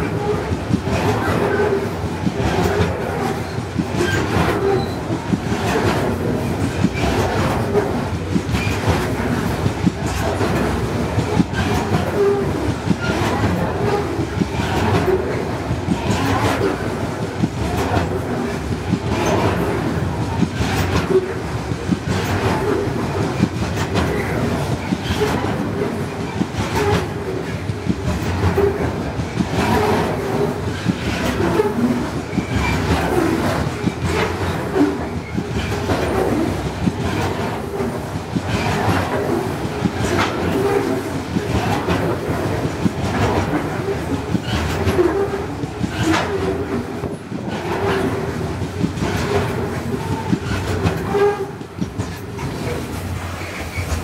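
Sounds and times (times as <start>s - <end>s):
freight train rolling past: 0.0s - 54.0s
wheels clacking over track joints: 0.0s - 54.0s.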